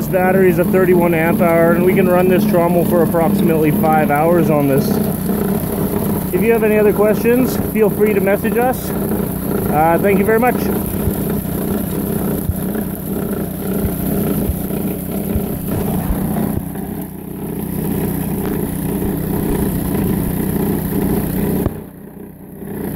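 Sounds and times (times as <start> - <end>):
water splashing onto rocks: 0.0 - 21.9
electric motor humming: 0.0 - 22.9.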